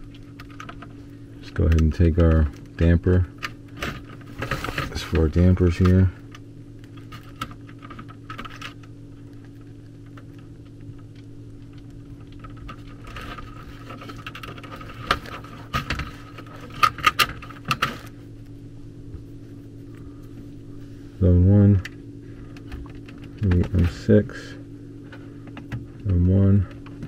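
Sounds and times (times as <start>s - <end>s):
wires clicking and rustling: 0.0s - 20.7s, 21.7s - 24.3s
steady low hum: 0.0s - 27.0s.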